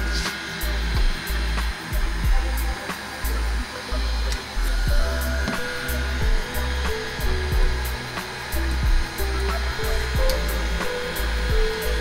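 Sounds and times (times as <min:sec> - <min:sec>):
background music with beat: 0:00.0 - 0:12.0
heat gun hissing: 0:00.0 - 0:12.0.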